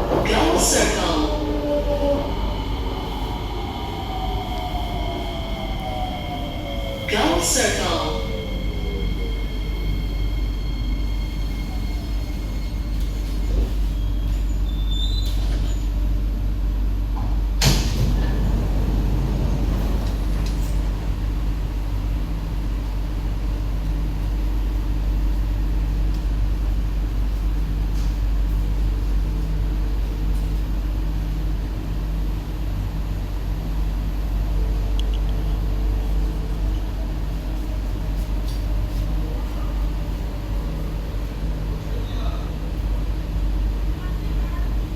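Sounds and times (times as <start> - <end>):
low hum of train equipment: 0.0 - 44.9.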